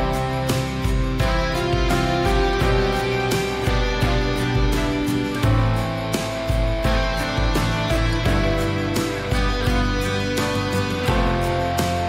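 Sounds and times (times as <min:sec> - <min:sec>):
plucked guitar music: 0:00.0 - 0:12.0
steady bass beat: 0:00.0 - 0:12.0.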